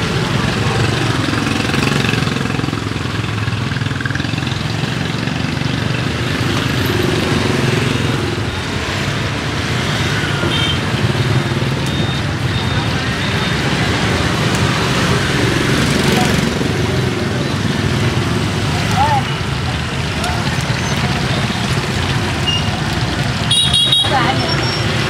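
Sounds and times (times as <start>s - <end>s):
motorbike engines passing: 0.0s - 25.0s
street traffic noise: 0.0s - 25.0s.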